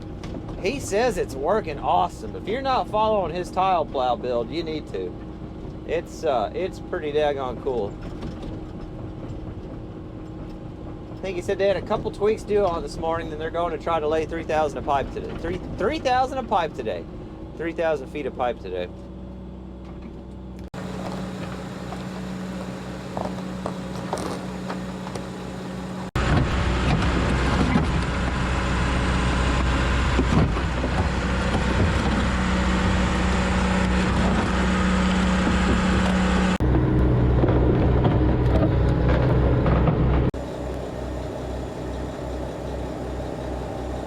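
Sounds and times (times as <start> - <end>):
truck diesel engine running: 0.0 - 44.0.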